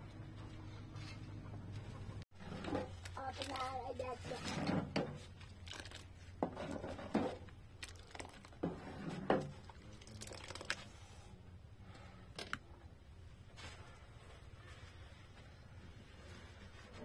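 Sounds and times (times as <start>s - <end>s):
rustling and crinkling: 0.4s - 11.2s, 13.4s - 17.0s.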